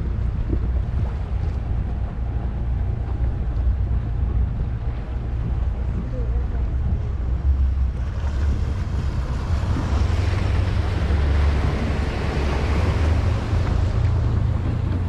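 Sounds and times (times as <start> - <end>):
boat engine drone: 0.0 - 15.0
water rushing past hull: 0.0 - 15.0
wind buffeting microphone: 0.0 - 15.0.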